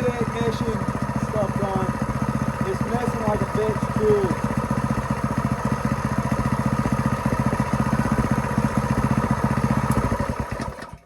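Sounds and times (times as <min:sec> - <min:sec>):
small engine running rough: 0:00.0 - 0:11.0.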